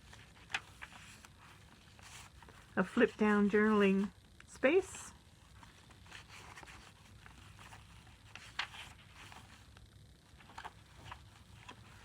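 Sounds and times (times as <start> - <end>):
paper pages rustling: 0.0 - 3.2, 5.4 - 12.0.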